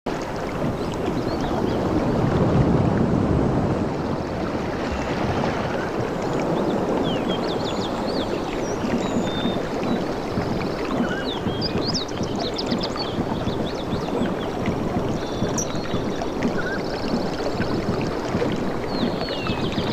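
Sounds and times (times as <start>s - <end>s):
river water rushing: 0.1s - 19.9s
wind: 0.1s - 19.9s.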